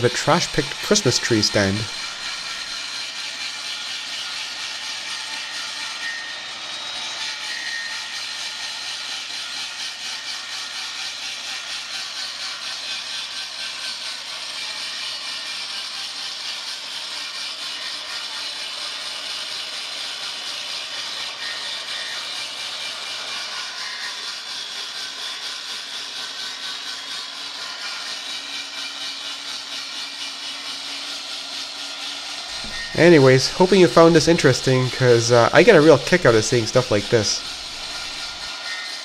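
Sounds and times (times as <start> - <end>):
circular saw cutting wood: 0.0 - 39.0.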